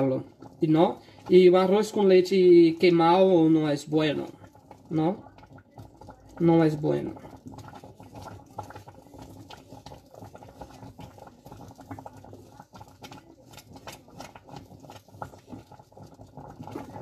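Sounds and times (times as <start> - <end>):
rice and milk bubbling in a pot: 0.0 - 17.0
wooden spoon stirring a pot: 0.0 - 17.0.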